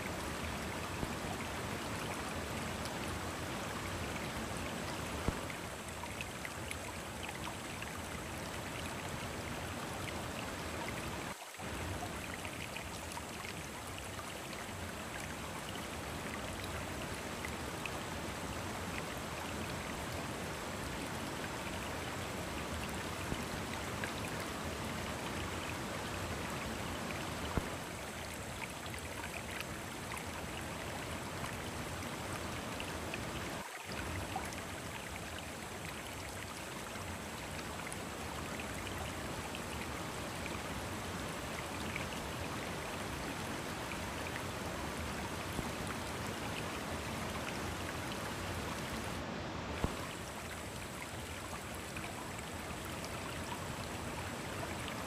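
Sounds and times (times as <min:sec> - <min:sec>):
river rushing over boulders: 0:00.0 - 0:55.0.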